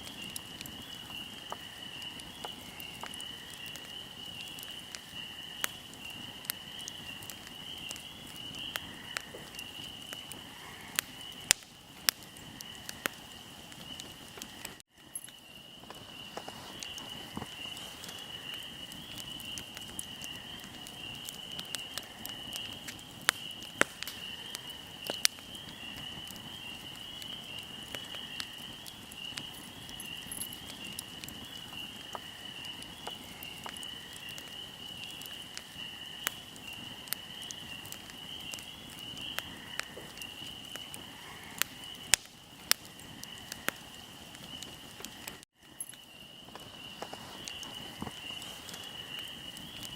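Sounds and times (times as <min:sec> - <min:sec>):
fire crackling: 0:00.0 - 0:49.9
insects chirring: 0:00.0 - 0:49.9.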